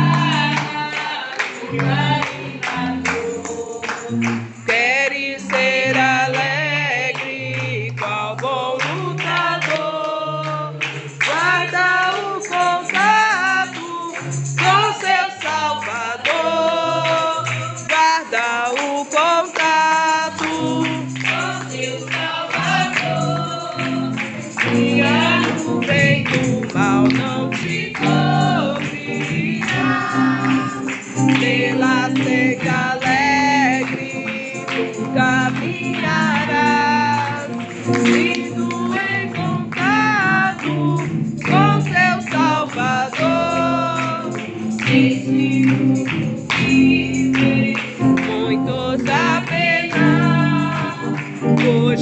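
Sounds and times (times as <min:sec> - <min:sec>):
instrumental backing: 0:00.0 - 0:52.0
voices singing: 0:00.0 - 0:52.0.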